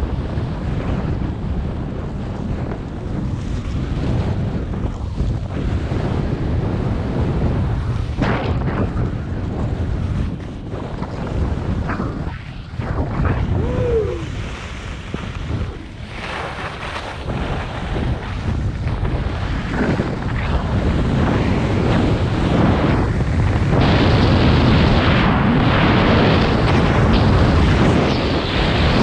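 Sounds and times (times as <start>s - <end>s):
wind over microphone: 0.0s - 29.0s
skis scraping over snow: 0.2s - 29.0s.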